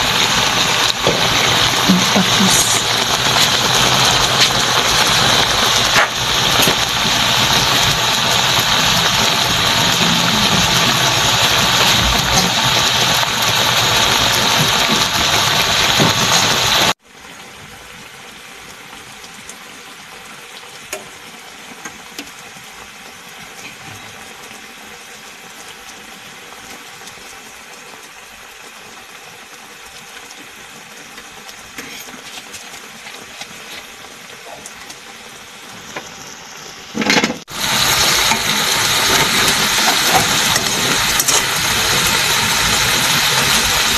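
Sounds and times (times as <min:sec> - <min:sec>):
stew boiling hard: 0:00.0 - 0:43.9.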